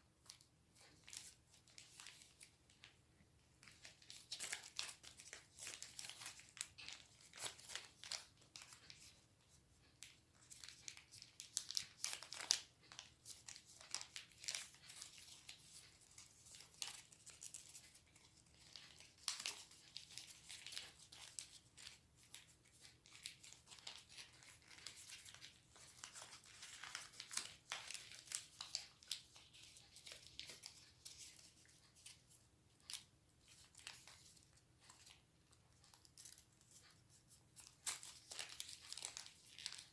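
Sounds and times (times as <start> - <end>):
paper crinkling and crackling: 0.2 - 39.9.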